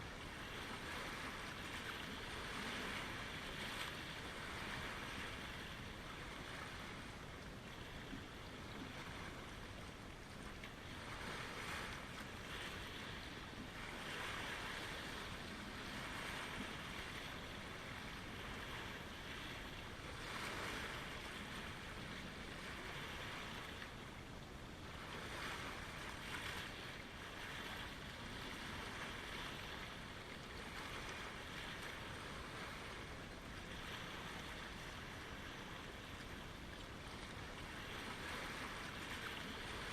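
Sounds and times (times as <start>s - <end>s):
lake waves washing ashore: 0.0s - 39.9s.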